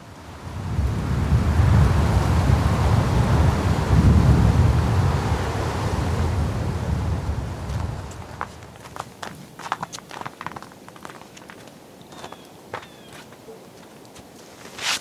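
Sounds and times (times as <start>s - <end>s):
wind buffeting microphone: 0.3s - 13.5s.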